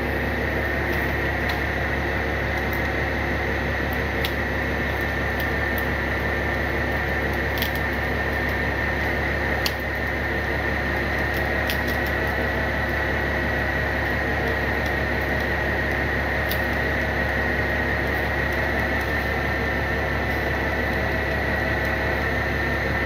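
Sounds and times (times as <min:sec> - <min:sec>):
high whine: 0:00.0 - 0:23.0
tow truck engine hum: 0:00.0 - 0:23.0.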